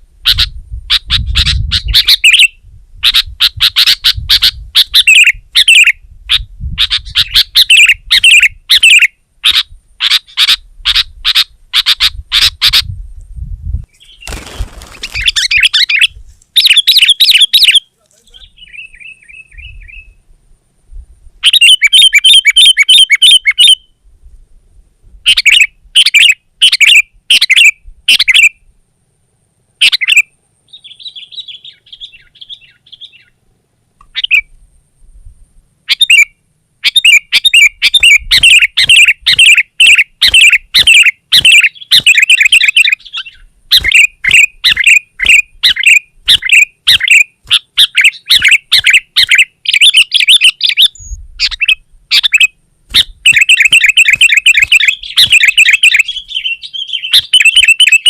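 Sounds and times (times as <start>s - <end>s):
bulbuls chirping: 0.2s - 12.9s, 13.9s - 20.2s, 21.4s - 23.9s, 25.3s - 28.5s, 29.8s - 33.4s, 34.0s - 34.6s, 35.8s - 58.0s.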